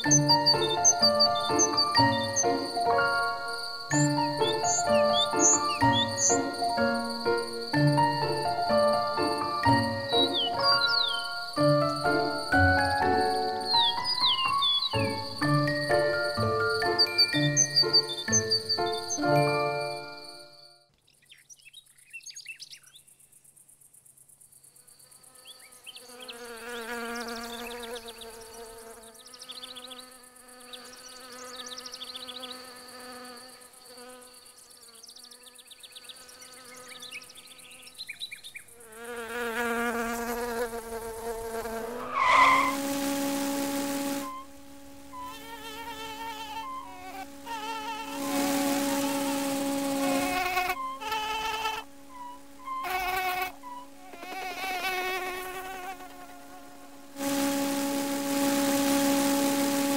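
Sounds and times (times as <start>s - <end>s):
flies buzzing: 0.0s - 20.6s, 24.8s - 59.9s.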